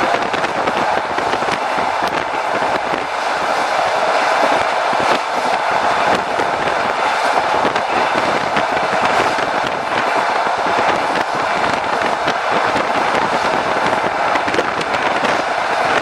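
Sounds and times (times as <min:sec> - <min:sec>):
train rumbling on rails: 0:00.0 - 0:16.0
train wheels clicking and clacking: 0:00.0 - 0:16.0.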